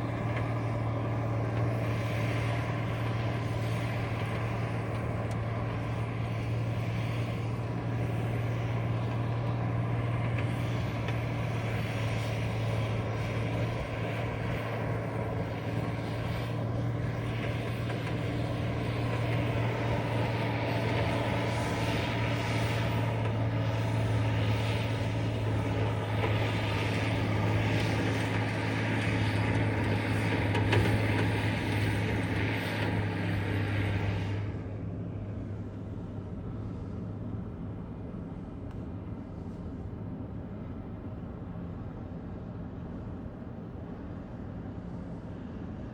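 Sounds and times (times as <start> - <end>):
heavy machine engine humming: 0.0 - 45.9.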